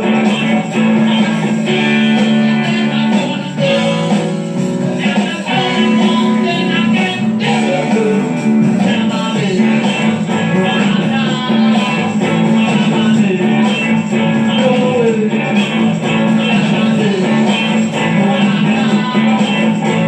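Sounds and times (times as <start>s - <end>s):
rock band playing: 0.0s - 20.0s
strummed guitar: 0.0s - 20.0s.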